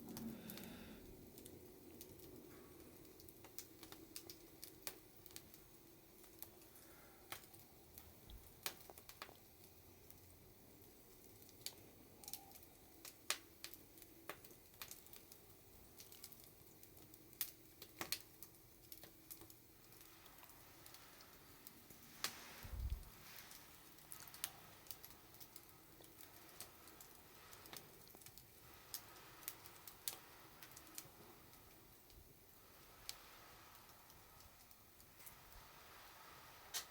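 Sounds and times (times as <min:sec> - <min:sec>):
campfire crackling: 0:00.0 - 0:36.9.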